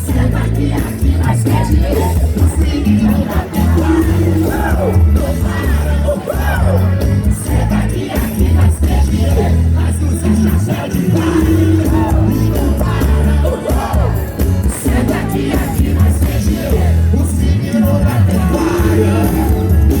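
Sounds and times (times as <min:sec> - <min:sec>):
heavy bass line: 0:00.0 - 0:20.0
live band music: 0:00.0 - 0:20.0
people singing: 0:00.0 - 0:20.0.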